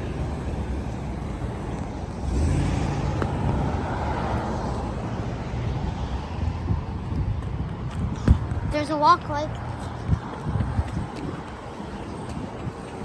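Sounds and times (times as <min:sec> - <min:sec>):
street traffic rumbling: 0:00.0 - 0:13.0
vehicle passing: 0:00.0 - 0:13.0.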